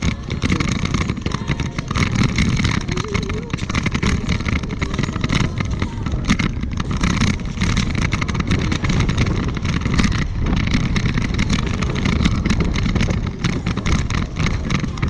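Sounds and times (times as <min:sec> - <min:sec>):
low rumble of wheels on pavement: 0:00.0 - 0:15.0
wind buffeting microphone: 0:00.0 - 0:15.0.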